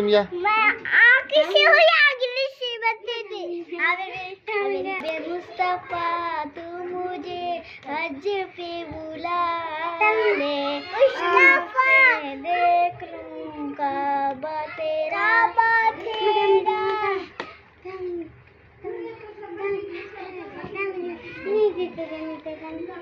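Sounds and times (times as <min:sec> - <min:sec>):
girl singing devotional song: 0:00.6 - 0:23.0.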